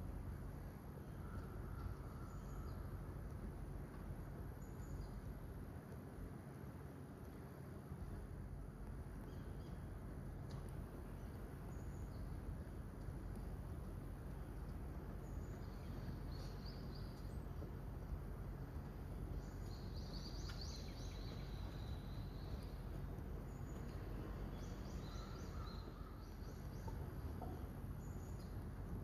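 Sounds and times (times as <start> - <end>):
low outdoor background hum: 0.0 - 29.0.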